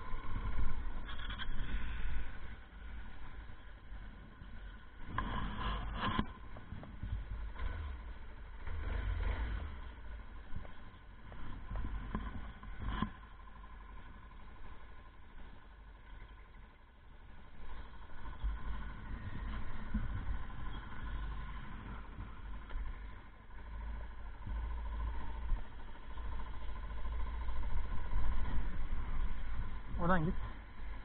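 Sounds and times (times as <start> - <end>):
wind rumble on microphone: 0.0 - 15.0, 17.5 - 31.0
motorcycle engine idling: 0.0 - 31.0.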